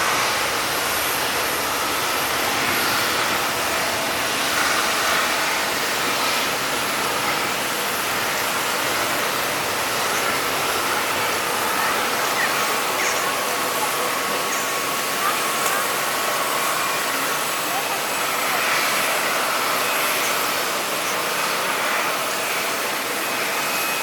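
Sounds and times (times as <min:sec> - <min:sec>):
jet engines idling: 0:00.0 - 0:24.0.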